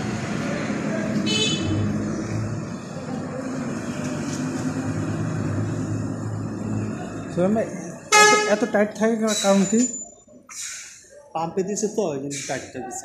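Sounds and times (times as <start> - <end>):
background traffic: 0.0 - 13.0.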